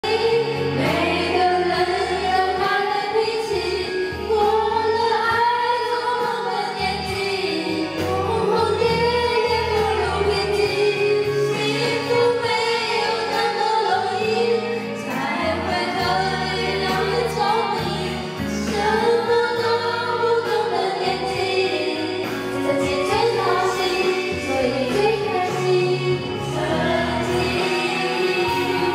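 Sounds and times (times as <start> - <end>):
karaoke backing track: 0.0 - 28.9
women singing a slow ballad: 0.0 - 28.9.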